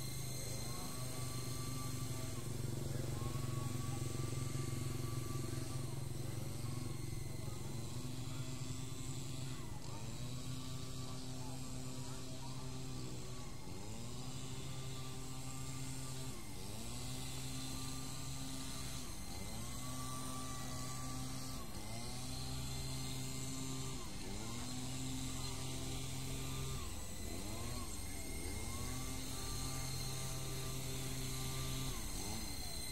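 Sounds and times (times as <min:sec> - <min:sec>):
toy helicopter motors buzzing: 0:00.0 - 0:32.9.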